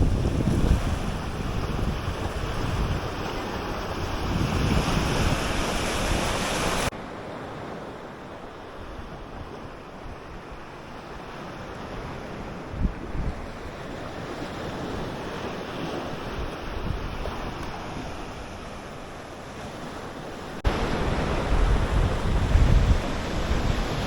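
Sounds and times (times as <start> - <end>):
waves washing onto beach: 0.0 - 24.0
wind buffeting microphone: 0.0 - 24.0.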